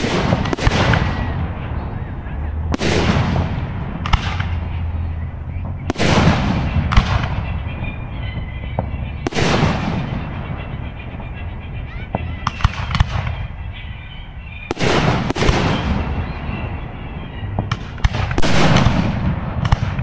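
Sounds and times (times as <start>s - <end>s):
firework shells booming: 0.0s - 11.4s, 12.0s - 13.5s, 14.6s - 20.0s.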